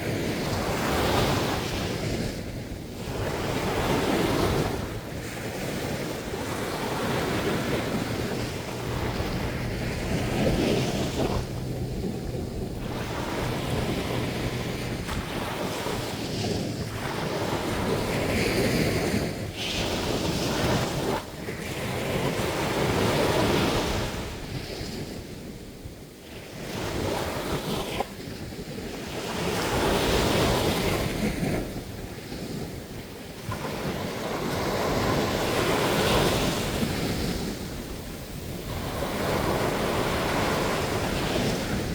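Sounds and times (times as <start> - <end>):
sea waves breaking on beach: 0.0 - 41.9.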